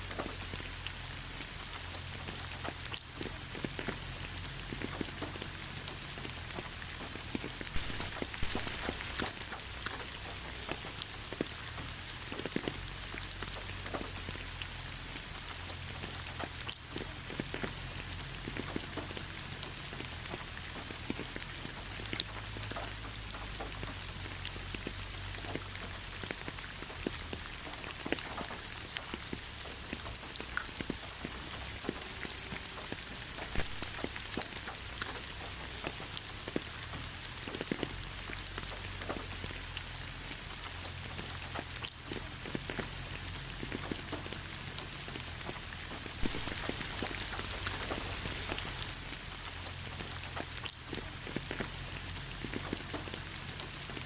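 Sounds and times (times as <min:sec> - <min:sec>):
drops pattering and dripping: 0:00.0 - 0:54.0
steady rain hiss: 0:00.0 - 0:54.0.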